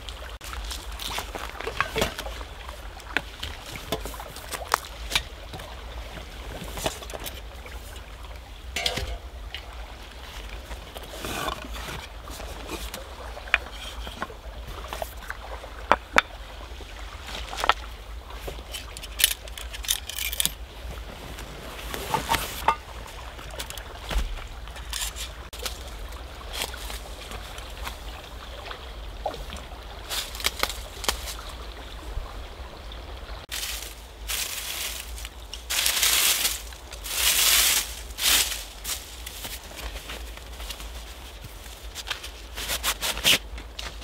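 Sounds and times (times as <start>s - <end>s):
stream water flowing: 0.0s - 44.0s
camping gear clicks and rustles: 0.4s - 8.1s, 8.8s - 16.4s, 17.3s - 28.1s, 30.1s - 31.6s, 33.5s - 44.0s.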